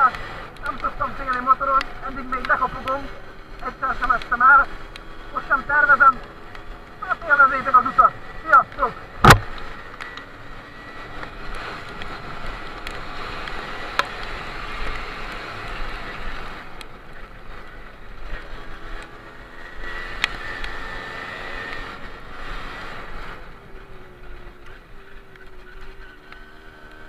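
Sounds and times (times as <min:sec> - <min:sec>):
moped engine running: 0:00.0 - 0:27.0.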